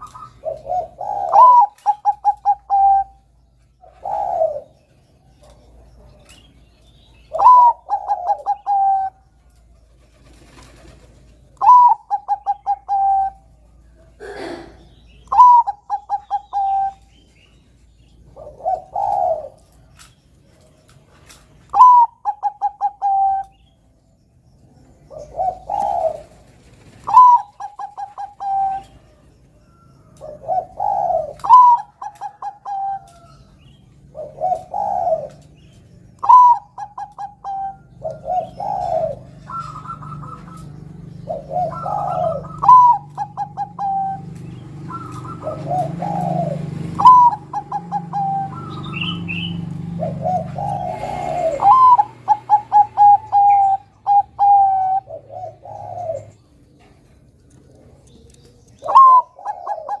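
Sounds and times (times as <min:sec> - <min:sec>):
dove cooing: 0:00.0 - 0:20.7, 0:21.7 - 0:23.7, 0:25.0 - 1:00.0.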